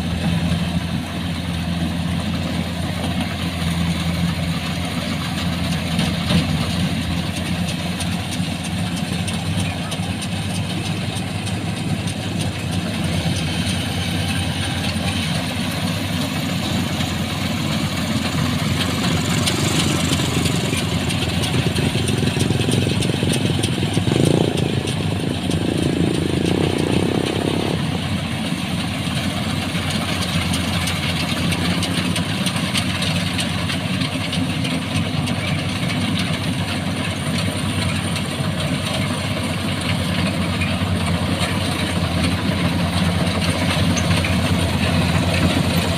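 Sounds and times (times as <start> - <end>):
combine harvester droning: 0.0 - 45.9.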